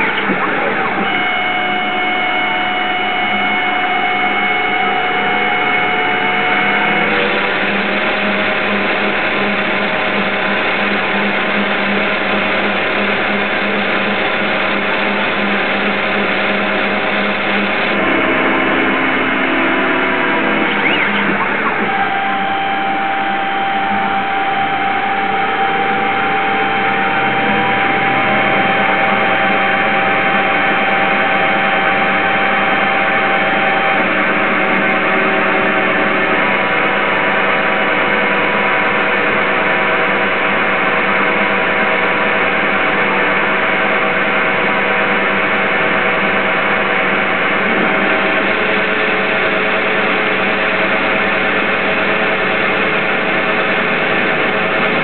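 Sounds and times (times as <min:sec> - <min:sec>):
lathe motor whine: 0:00.0 - 0:55.0.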